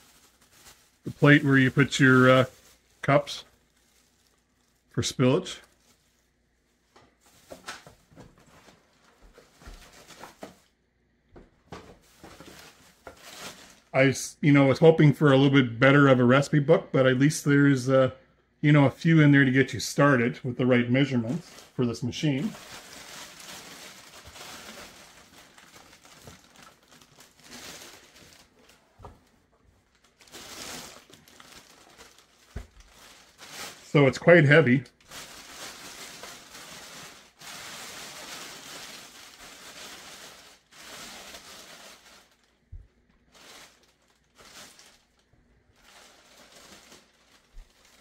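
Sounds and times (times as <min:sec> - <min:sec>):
plastic bag crinkling: 0:00.0 - 0:10.8, 0:11.9 - 0:14.0, 0:20.7 - 0:48.0
plastic wrap rustling: 0:00.0 - 0:10.8, 0:11.6 - 0:14.2, 0:19.0 - 0:48.0.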